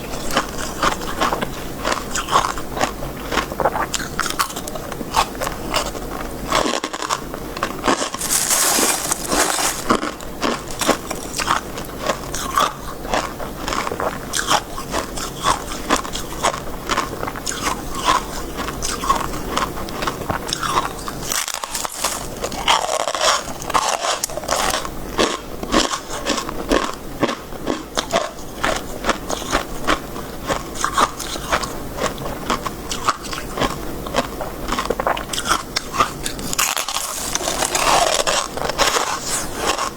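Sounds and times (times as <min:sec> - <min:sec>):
crunching and chewing ice: 0:00.2 - 0:39.9.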